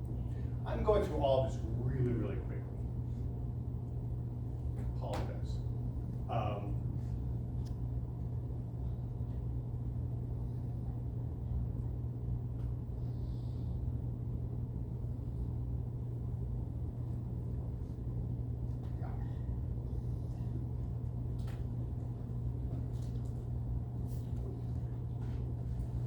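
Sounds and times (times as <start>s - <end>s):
room noise hum and rumble: 0.0s - 26.0s.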